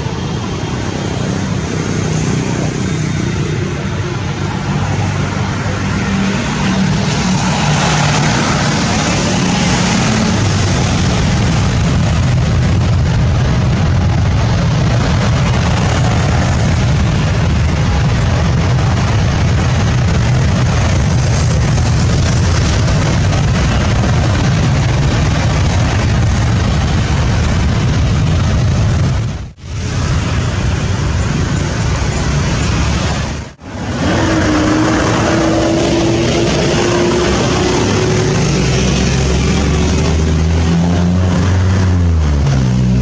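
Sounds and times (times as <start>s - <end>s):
jet engine noise: 0.0s - 43.0s
whine rising in pitch: 0.0s - 43.0s.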